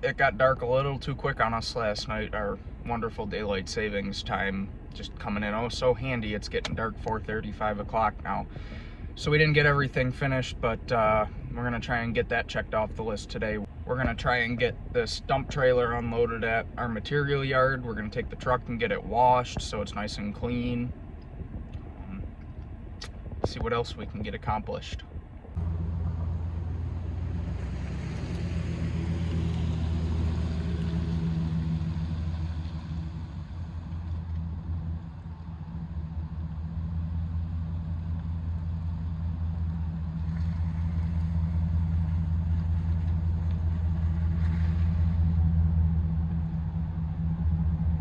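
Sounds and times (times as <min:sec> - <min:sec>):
road or wind noise: 0:00.0 - 0:48.0
truck engine drone: 0:00.0 - 0:48.0.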